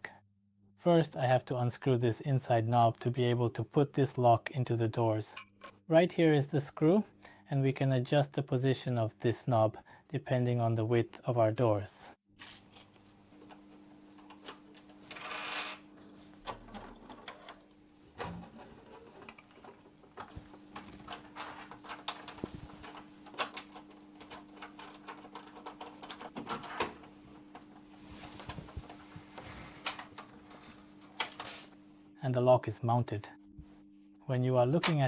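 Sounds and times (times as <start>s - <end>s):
faint steady hum: 0.9s - 35.0s.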